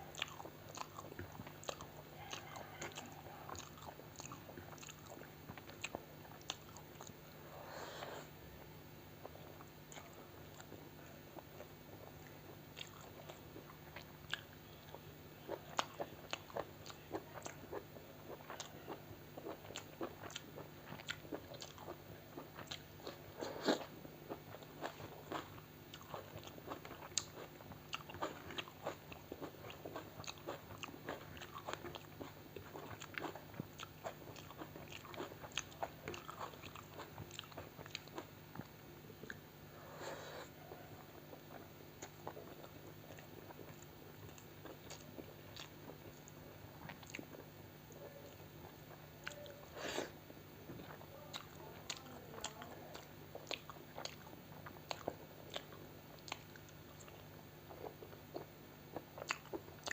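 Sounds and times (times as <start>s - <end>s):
person chewing and biting food: 0.0s - 7.2s, 9.2s - 59.9s.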